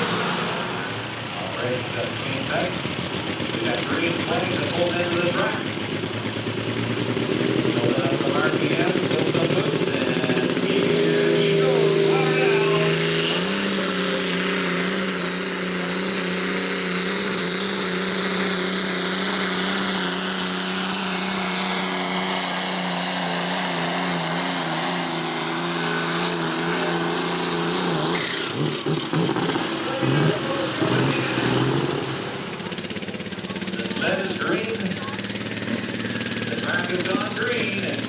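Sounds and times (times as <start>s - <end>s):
diesel engine high-revving drone: 0.0s - 38.0s.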